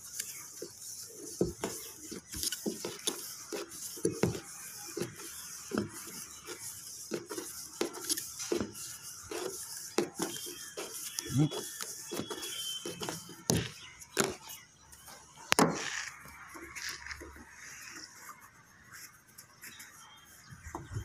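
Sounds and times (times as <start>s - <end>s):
tape pulled and wound by hand: 0.0s - 20.0s.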